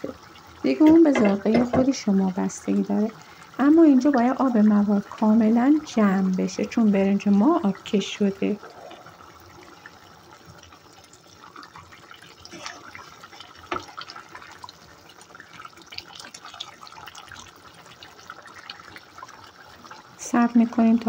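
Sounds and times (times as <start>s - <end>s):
stew bubbling and popping: 0.0s - 21.0s.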